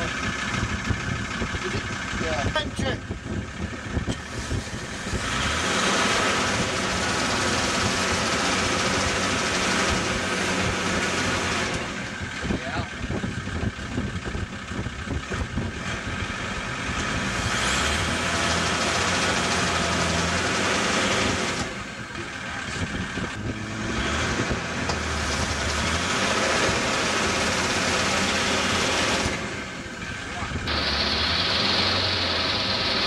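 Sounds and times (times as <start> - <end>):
engine turning over without firing: 3.2 - 33.0.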